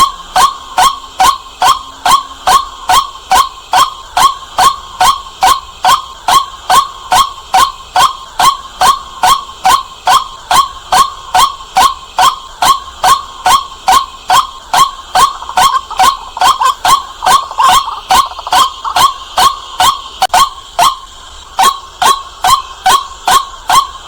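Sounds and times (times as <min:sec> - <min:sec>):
bird calling harsh notes: 0:00.0 - 0:24.0.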